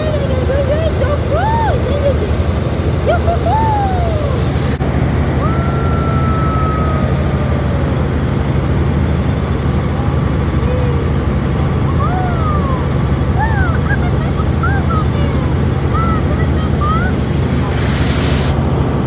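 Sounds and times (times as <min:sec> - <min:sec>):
helicopter cabin drone: 0:00.0 - 0:19.0.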